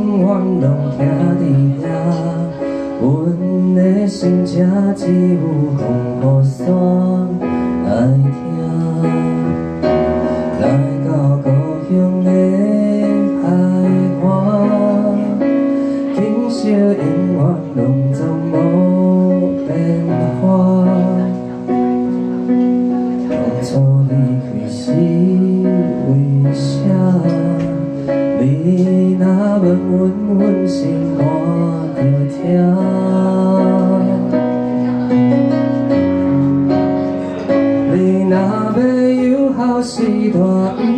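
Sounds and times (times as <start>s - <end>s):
electronic keyboard piano chords: 0.0s - 40.9s
man singing: 0.0s - 40.9s.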